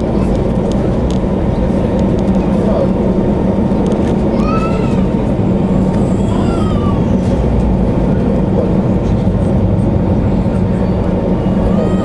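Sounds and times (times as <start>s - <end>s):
jet engines and runway rumble: 0.0s - 12.0s.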